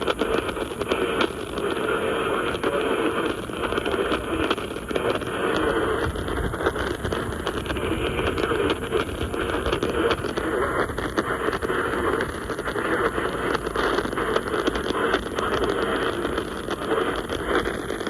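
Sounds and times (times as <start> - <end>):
crackles and pops: 0.0 - 18.0
radio static hiss: 0.0 - 18.0.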